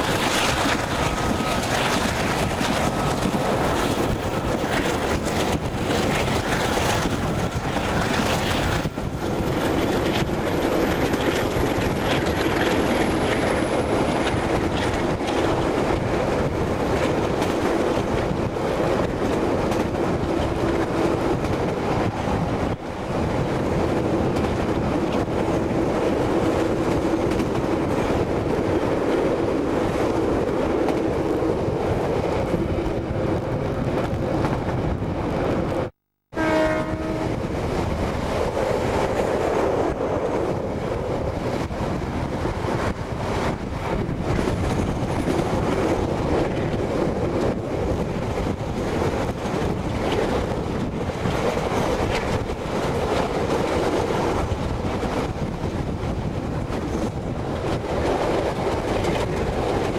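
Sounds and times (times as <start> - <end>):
wheels rushing on rail: 0.0 - 59.9
wind rushing: 0.0 - 59.9.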